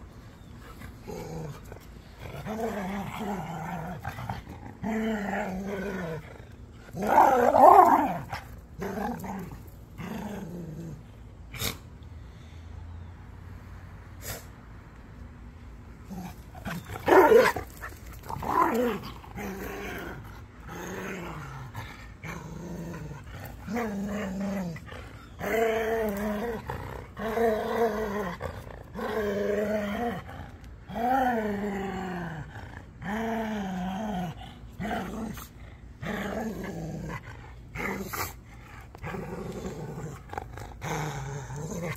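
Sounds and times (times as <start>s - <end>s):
dogs growling: 0.4s - 11.9s, 16.0s - 41.9s.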